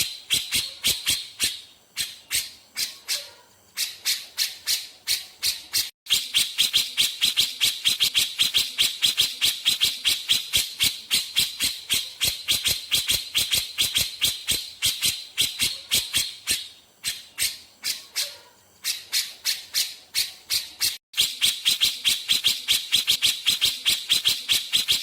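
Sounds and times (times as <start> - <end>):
bulbul calling in rapid sharp notes: 3.8 - 25.0.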